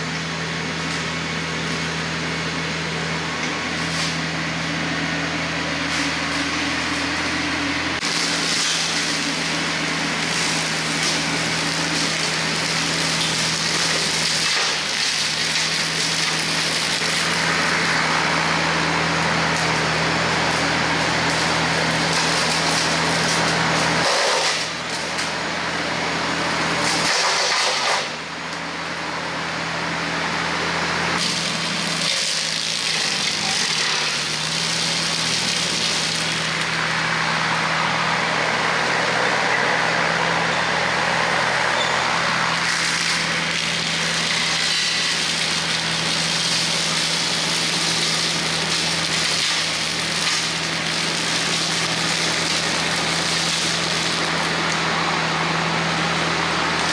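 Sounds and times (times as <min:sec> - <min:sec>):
tractor diesel engine: 0:00.0 - 0:56.9
rotary cutter chopping brush: 0:03.3 - 0:25.4, 0:26.7 - 0:28.7, 0:31.2 - 0:37.4, 0:41.4 - 0:56.9.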